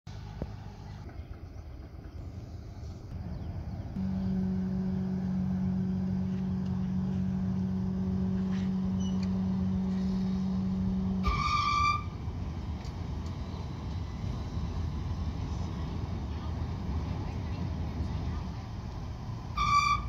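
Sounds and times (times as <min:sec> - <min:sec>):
ferry low drone: 0:00.1 - 0:20.0.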